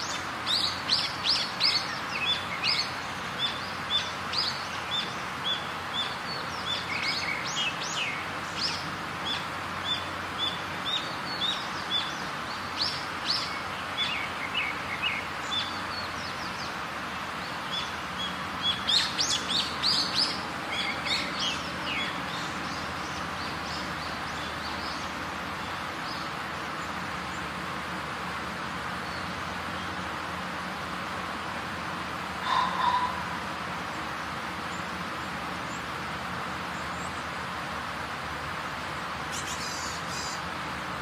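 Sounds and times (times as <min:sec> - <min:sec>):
birds chirping: 0:00.0 - 0:37.5, 0:38.8 - 0:41.0
outdoor background hiss: 0:00.0 - 0:41.0.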